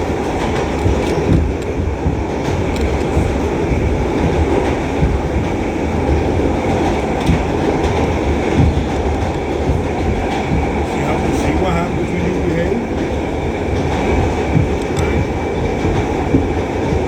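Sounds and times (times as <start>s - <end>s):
subway train rumbling: 0.0s - 17.0s
wheels clicking over rail joints: 0.0s - 17.0s.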